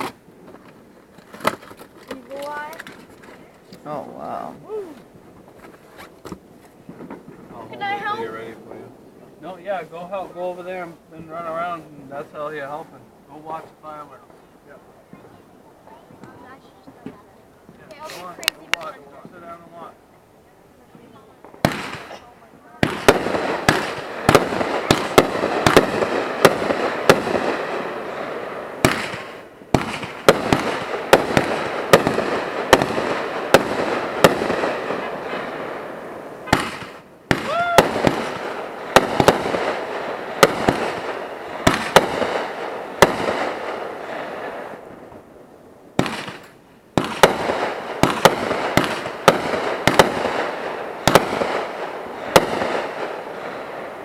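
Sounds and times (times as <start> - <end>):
fireworks bangs: 0.0 - 20.0, 20.8 - 54.0
fireworks crackling: 0.0 - 54.0.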